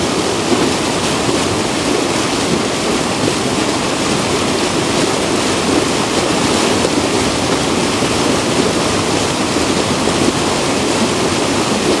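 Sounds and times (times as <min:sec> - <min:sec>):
wind over the microphone: 0:00.0 - 0:12.0.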